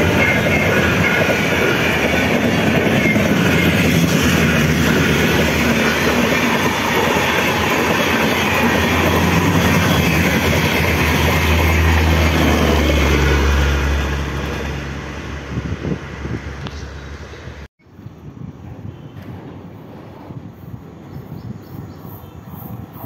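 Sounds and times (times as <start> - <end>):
train wheels rushing on rail: 0.0 - 17.7, 18.3 - 23.0.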